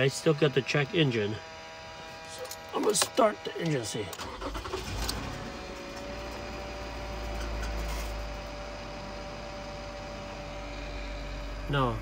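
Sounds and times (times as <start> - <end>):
car engine idling: 0.0 - 12.0
faint steady whine: 0.0 - 12.0.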